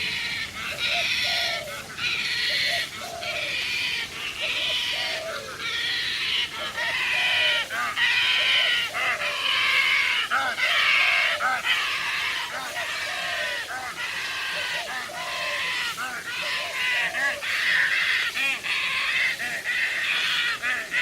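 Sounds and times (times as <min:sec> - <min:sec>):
bird giving harsh calls: 0:00.0 - 0:21.0.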